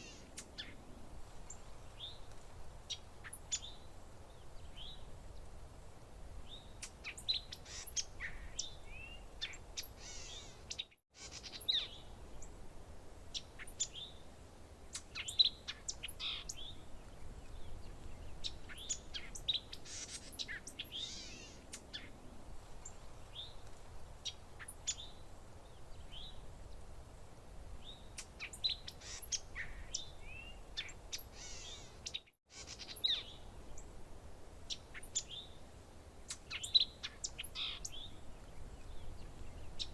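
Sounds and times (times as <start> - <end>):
songbirds chirping and trilling: 0.0 - 5.7, 6.3 - 27.1, 27.7 - 39.9.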